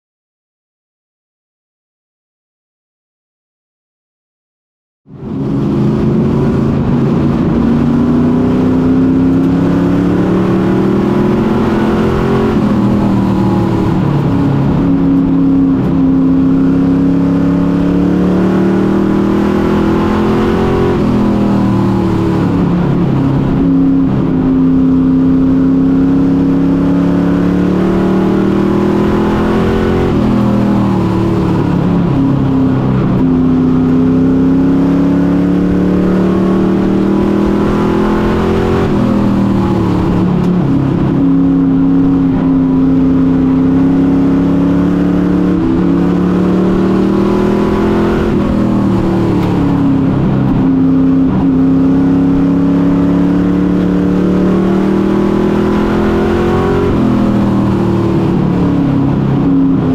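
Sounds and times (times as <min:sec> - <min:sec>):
race truck engine revving: 0:05.1 - 0:59.9.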